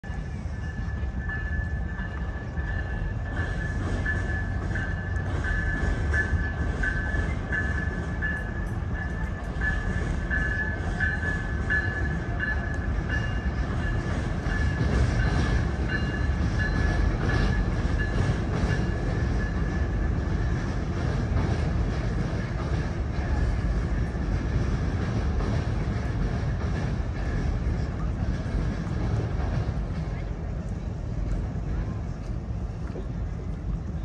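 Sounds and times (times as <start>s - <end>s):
train rumbling across bridge: 0.0s - 34.0s.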